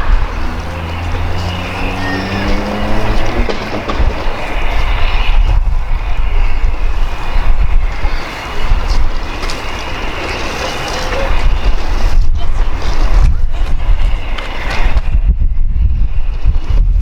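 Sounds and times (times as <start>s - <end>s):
steady hiss: 0.0s - 15.0s
wind buffeting microphone: 0.0s - 17.0s.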